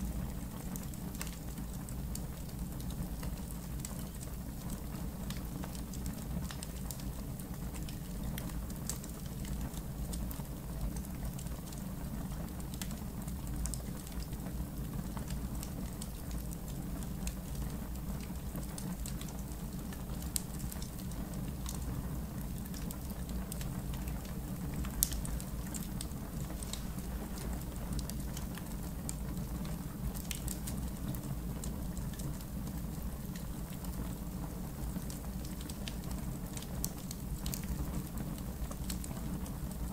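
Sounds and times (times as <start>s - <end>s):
campfire crackling and popping: 0.7s - 11.8s, 12.4s - 39.9s.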